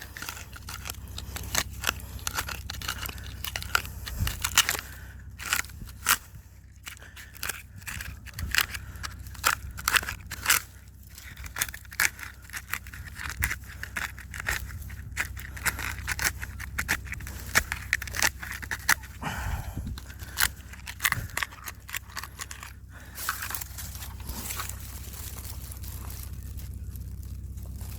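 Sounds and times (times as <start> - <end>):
sharp crackles and clicks: 0.0 - 19.2, 20.0 - 27.9
stick scraping into soil: 0.0 - 27.9.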